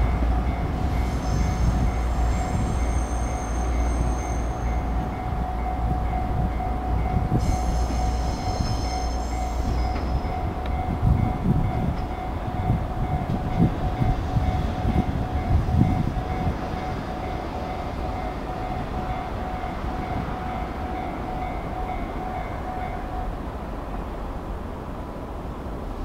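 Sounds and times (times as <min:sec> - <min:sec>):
diesel railcar rumble: 0:00.0 - 0:26.0.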